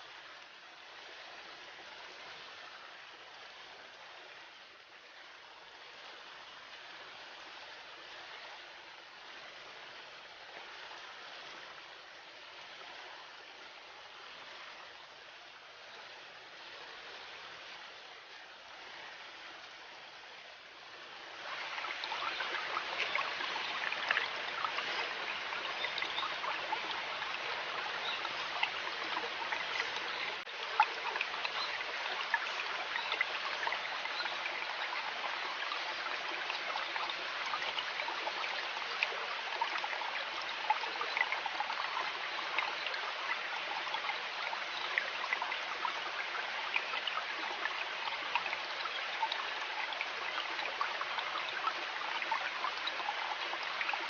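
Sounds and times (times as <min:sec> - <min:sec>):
river water babbling: 0:00.0 - 0:54.0
small water splashes: 0:00.0 - 0:54.0.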